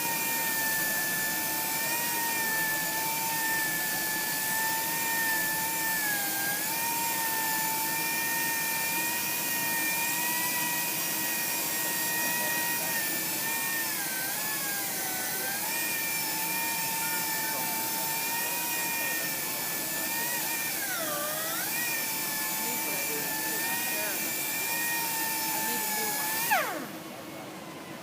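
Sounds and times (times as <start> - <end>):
electric buffer whining: 0.0 - 28.0.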